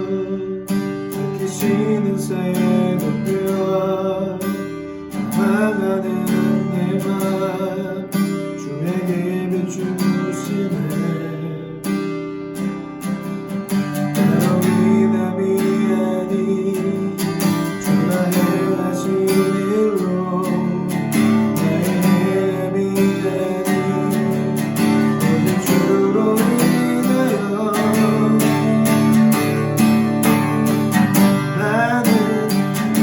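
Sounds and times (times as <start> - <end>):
acoustic guitar strummed: 0.0 - 33.0.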